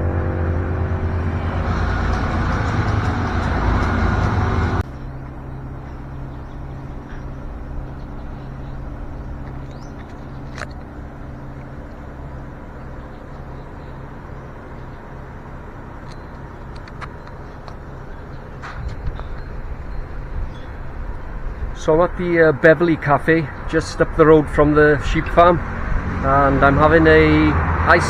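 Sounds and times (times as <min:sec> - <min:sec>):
road noise: 0:00.0 - 0:28.0
vehicle engine running: 0:00.0 - 0:28.0.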